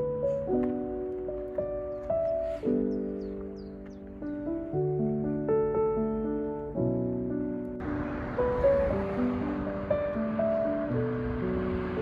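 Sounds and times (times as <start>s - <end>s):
soft music with sustained notes: 0.0s - 12.0s.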